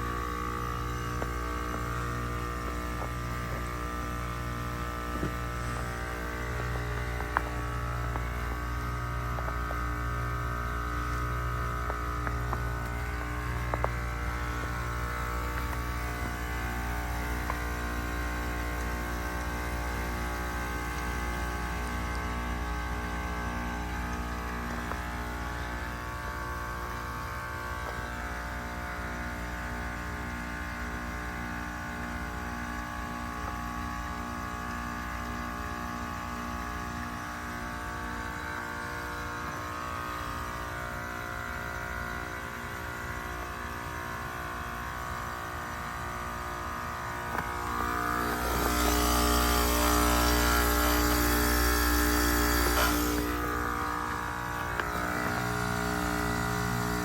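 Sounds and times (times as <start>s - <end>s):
heat pump compressor hum: 0.0s - 57.0s.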